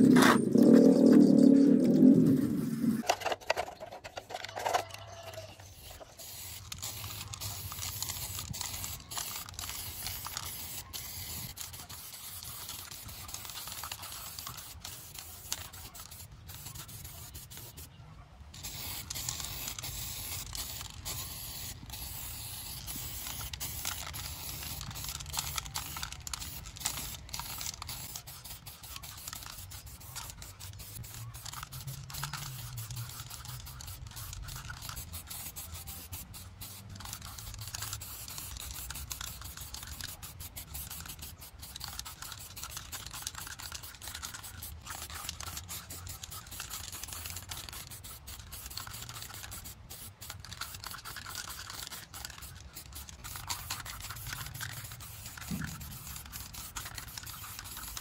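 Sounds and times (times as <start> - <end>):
aerosol spray can hissing: 0.0 - 3.0, 5.7 - 17.8, 18.6 - 58.0.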